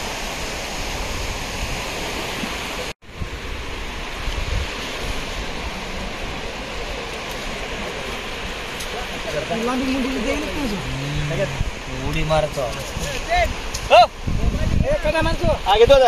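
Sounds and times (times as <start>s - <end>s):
sea surf washing on beach: 0.0s - 16.0s
wind on microphone: 0.0s - 16.0s.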